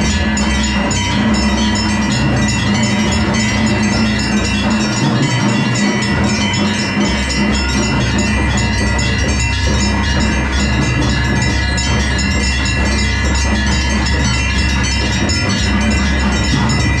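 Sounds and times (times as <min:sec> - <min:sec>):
temple bells ringing rapidly: 0:00.0 - 0:17.0.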